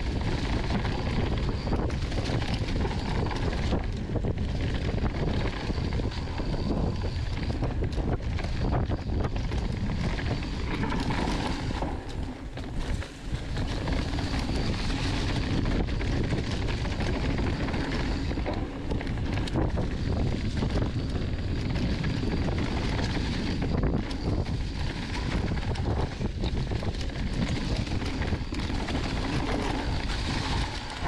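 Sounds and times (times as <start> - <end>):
bike chain and frame clattering: 0.0 - 31.0
bike tyres on dirt: 0.0 - 31.0
wind buffeting microphone: 0.0 - 31.0.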